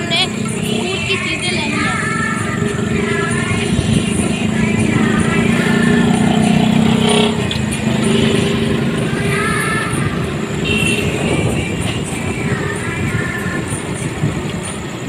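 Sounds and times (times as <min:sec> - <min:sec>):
motorcycle engine running: 0:00.0 - 0:15.0
road and traffic noise: 0:00.0 - 0:15.0.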